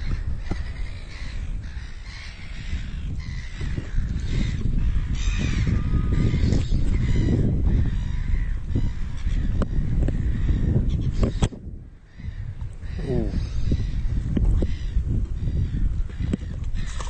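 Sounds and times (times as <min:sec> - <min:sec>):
bird cawing: 0:00.0 - 0:17.0
wind buffeting microphone: 0:00.0 - 0:17.0.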